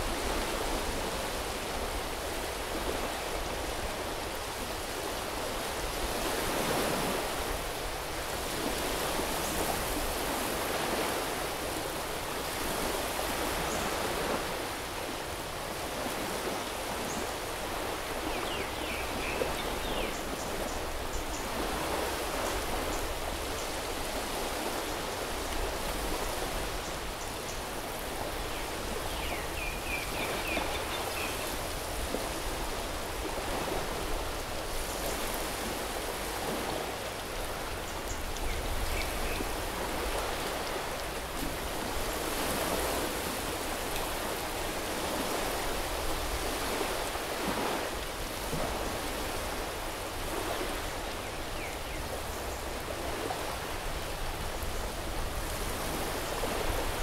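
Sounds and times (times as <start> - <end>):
surf washing onto beach: 0.0 - 57.0.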